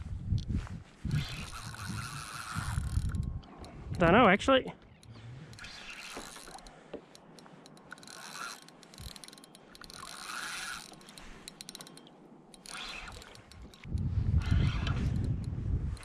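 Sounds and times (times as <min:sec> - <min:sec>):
fishing reel being cranked: 0:01.1 - 0:03.8, 0:04.8 - 0:16.0.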